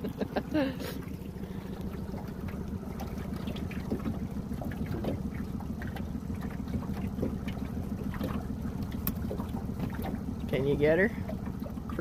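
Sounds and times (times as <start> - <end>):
outboard motor running: 0.0 - 12.0
water splashing against boat: 0.0 - 12.0.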